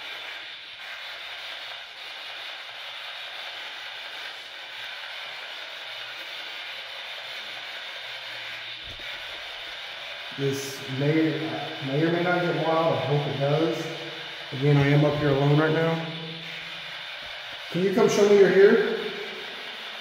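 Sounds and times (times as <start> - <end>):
static hiss: 0.0 - 20.0.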